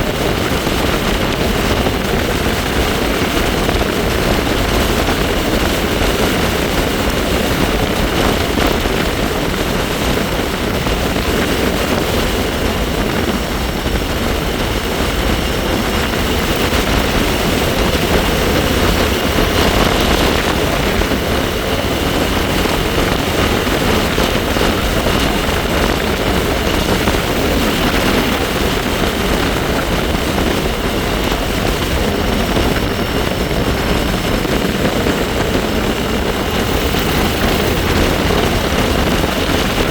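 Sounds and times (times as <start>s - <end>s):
high-pitched whine from bike: 0.0s - 39.9s
wind rushing over microphone: 0.0s - 39.9s.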